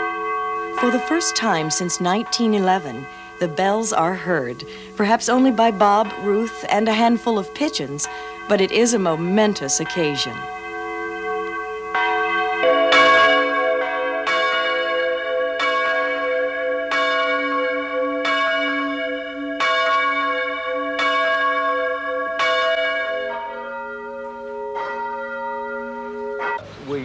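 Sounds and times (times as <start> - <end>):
church bell ringing: 0.0 - 26.8.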